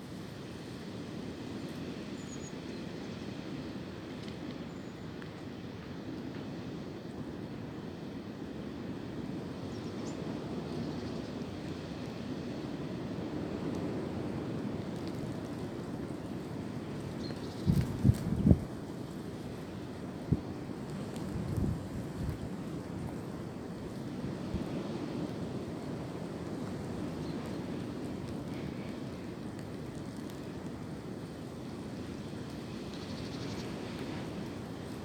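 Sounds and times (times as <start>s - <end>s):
wind through tree branches: 0.0s - 35.0s.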